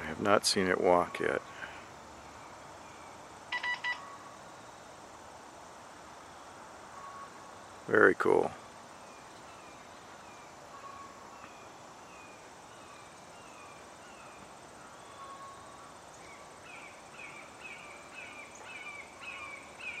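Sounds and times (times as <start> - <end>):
high insect hum: 0.0 - 20.0.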